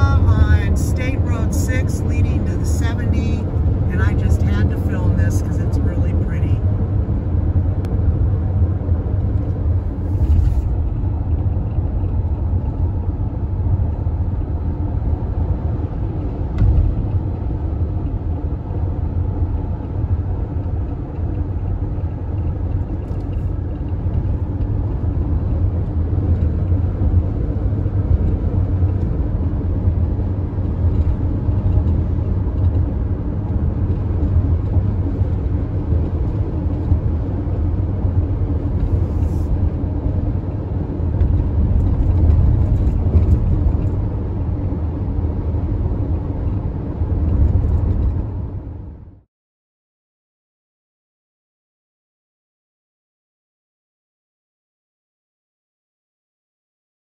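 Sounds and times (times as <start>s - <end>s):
road and engine rumble: 0.0s - 49.3s.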